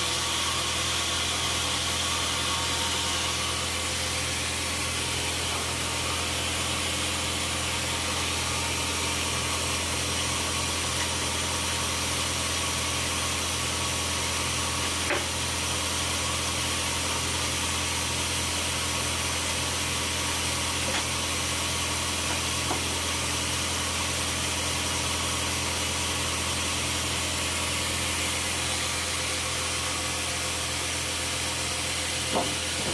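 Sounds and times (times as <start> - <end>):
sawmill machinery drone: 0.0 - 32.9.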